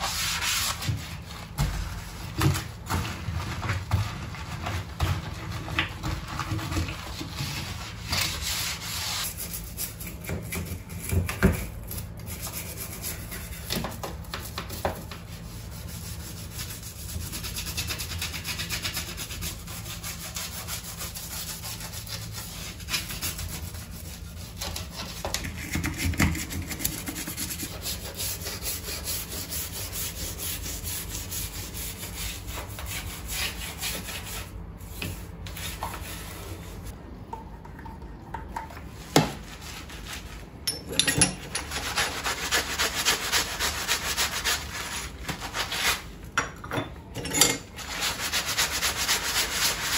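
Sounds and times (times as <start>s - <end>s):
hand scrubbing a hard surface: 0.0s - 37.0s, 41.6s - 46.1s, 47.8s - 49.9s.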